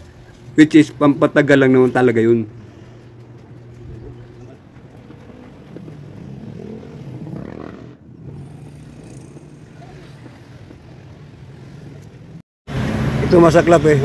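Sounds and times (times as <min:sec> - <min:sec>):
street traffic: 0:00.0 - 0:14.0
motor vehicle engine running: 0:02.4 - 0:14.0.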